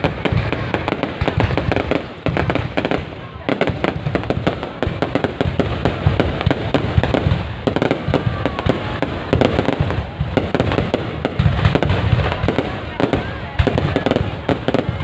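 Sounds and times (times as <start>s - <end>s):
booming firework shells: 0.0s - 15.0s
fireworks crackling and popping: 0.0s - 15.0s.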